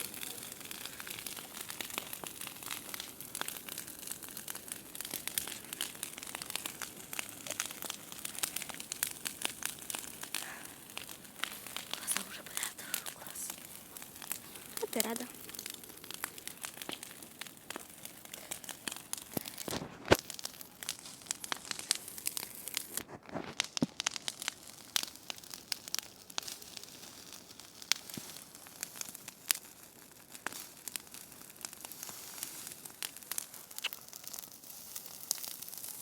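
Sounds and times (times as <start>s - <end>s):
bonfire crackling and popping: 0.0s - 36.0s.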